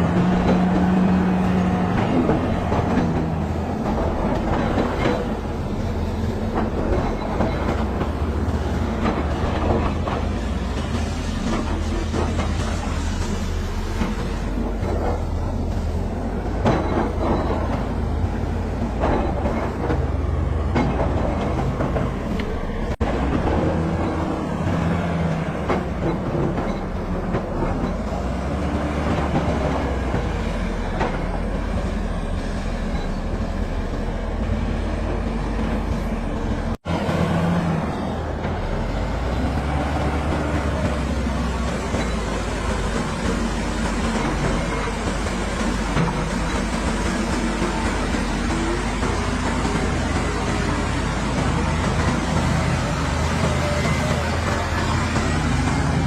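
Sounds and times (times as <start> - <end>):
bulldozer diesel engine: 0.0 - 56.0
steel tracks clanking: 0.0 - 56.0.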